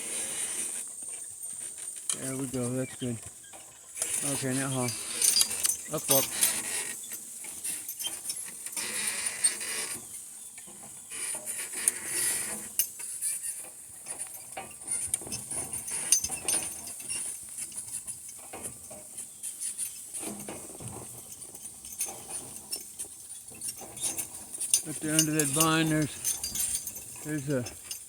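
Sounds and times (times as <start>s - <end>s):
cart knocking and creaking: 0.7s - 28.0s
harness jingling and clinking: 0.9s - 28.0s.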